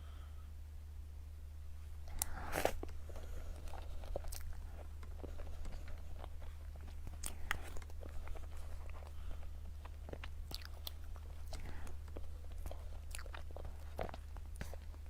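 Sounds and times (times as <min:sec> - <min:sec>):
steady low hum: 0:00.0 - 0:15.0
lip smacks: 0:02.0 - 0:15.0
person chewing food: 0:02.0 - 0:15.0.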